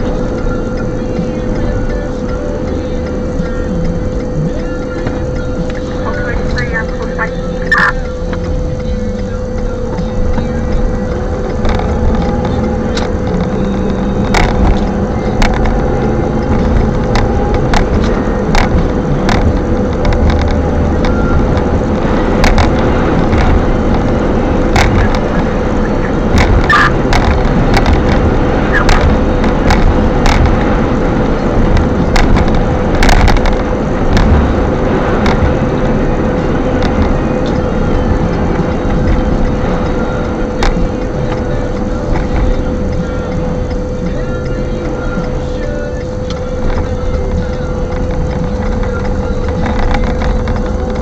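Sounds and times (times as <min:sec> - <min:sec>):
sharp clicks and knocks: 0:00.0 - 0:51.0
steady hum: 0:00.0 - 0:51.0.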